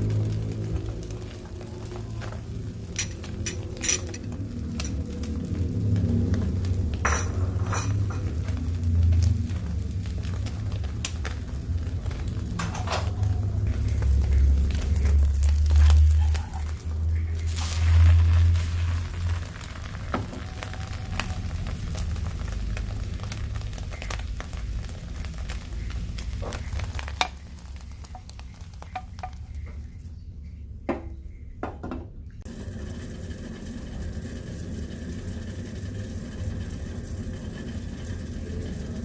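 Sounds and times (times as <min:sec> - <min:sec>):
omelette sizzling in a pan: 0:00.0 - 0:29.8, 0:32.4 - 0:39.0.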